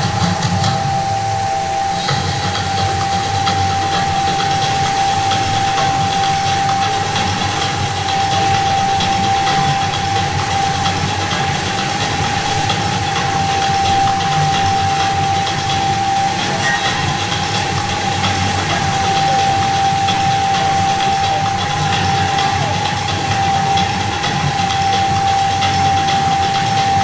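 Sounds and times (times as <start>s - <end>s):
fountain water jets hissing: 0.0s - 27.0s
high steady tone: 0.0s - 27.0s.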